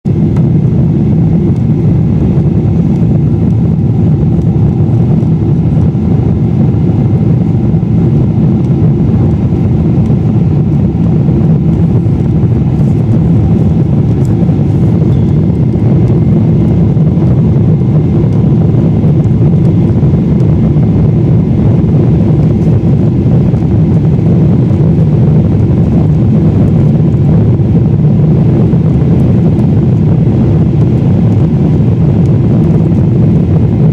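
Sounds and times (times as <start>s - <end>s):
airplane cabin airflow and engine: 0.0s - 33.9s.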